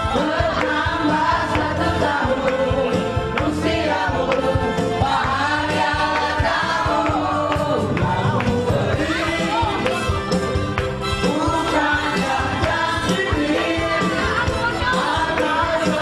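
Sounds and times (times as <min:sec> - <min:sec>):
group of voices singing: 0:00.0 - 0:16.0
instrumental accompaniment: 0:00.0 - 0:16.0.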